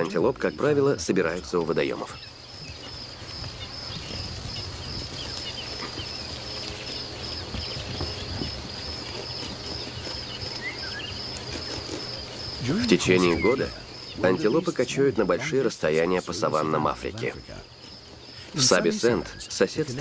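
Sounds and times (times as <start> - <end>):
pulsing insect trill: 0.0 - 20.0.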